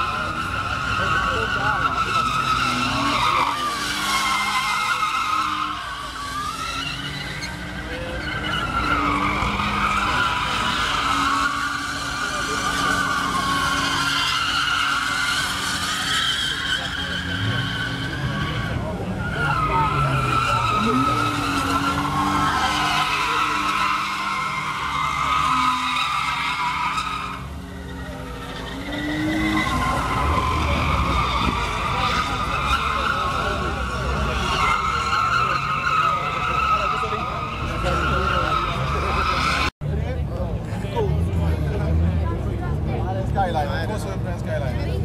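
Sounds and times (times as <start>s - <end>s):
tyres screeching: 0.0s - 39.7s
engines at high revs: 0.0s - 39.8s.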